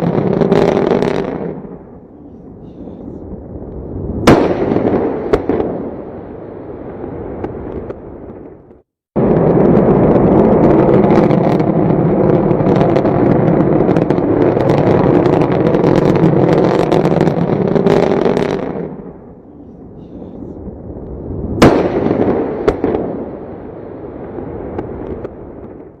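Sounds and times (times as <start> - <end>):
dense crackling roar: 0.0 - 26.0.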